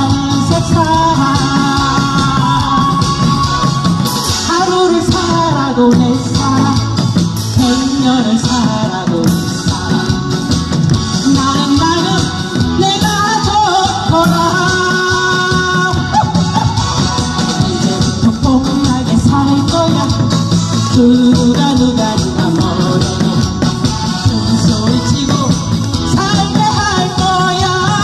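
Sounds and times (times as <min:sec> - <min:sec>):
amplified backing music: 0:00.0 - 0:28.0
woman singing into microphone: 0:00.0 - 0:28.0.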